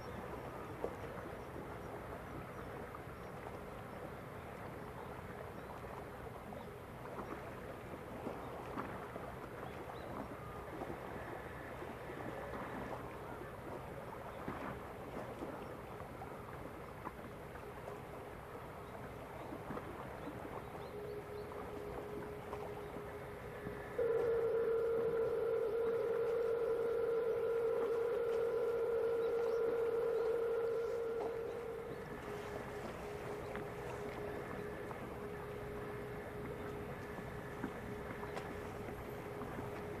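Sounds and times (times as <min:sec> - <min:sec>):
faint low hum: 0:00.0 - 0:40.0
small waves lapping at shore: 0:00.0 - 0:40.0.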